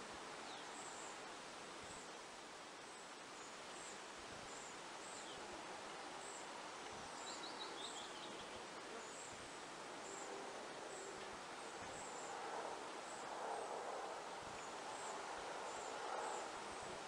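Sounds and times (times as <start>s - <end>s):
steady soft hiss: 0.0s - 17.0s.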